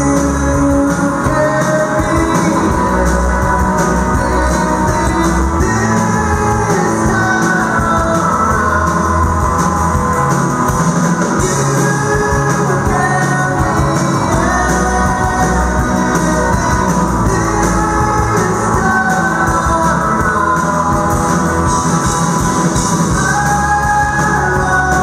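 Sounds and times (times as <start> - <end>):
man singing into microphone: 0.0 - 9.6, 11.4 - 22.2, 22.8 - 25.0
bass guitar: 0.0 - 25.0
drums: 0.0 - 25.0
electric guitars: 0.0 - 25.0.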